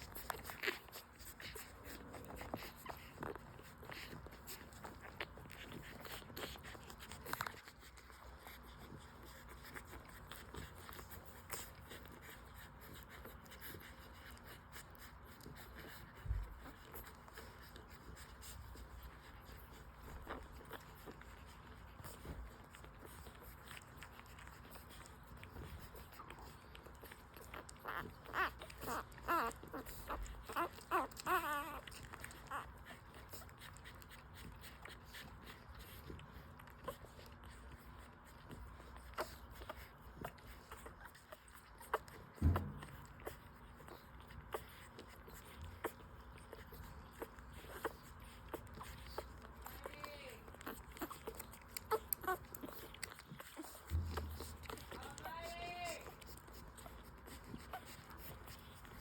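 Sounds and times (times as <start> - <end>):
puppies suckling clicks: 0.0 - 59.0
rustling: 0.0 - 59.0.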